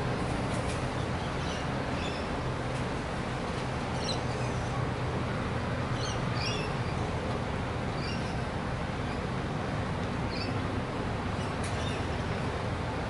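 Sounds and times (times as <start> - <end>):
distant city rumble: 0.0 - 13.0.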